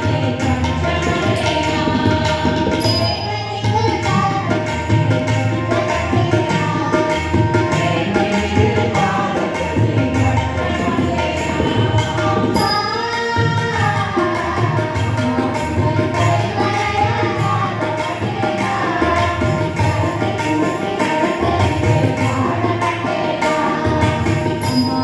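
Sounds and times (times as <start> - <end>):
group singing devotional song: 0.0 - 25.0
harmonium: 0.0 - 25.0
tabla strokes: 0.0 - 25.0.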